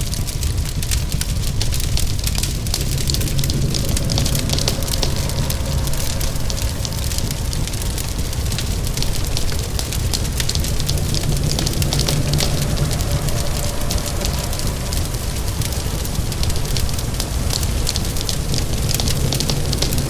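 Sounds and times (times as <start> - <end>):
fire crackling and popping: 0.0 - 20.0
steady rain: 0.0 - 20.0.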